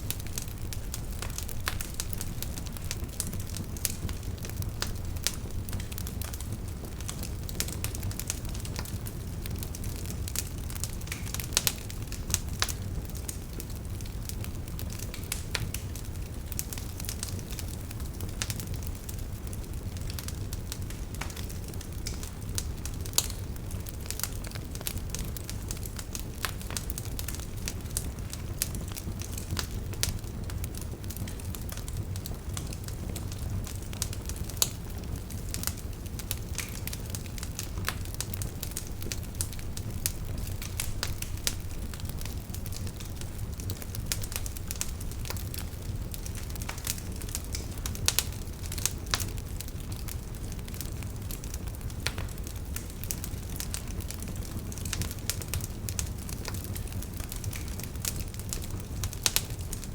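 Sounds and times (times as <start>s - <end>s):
burning wood crackling and popping: 0.0s - 59.9s
low rumble of flames: 0.0s - 59.9s.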